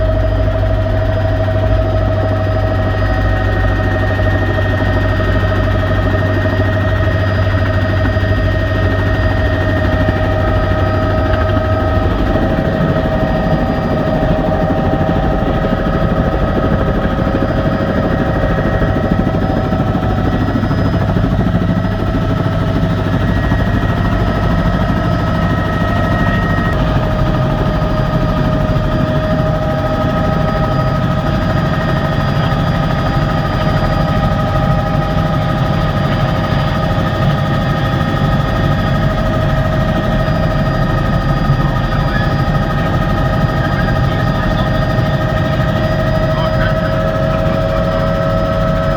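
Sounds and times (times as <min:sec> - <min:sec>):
helicopter rotor chop: 0:00.0 - 0:48.9
high engine whine: 0:00.0 - 0:48.9.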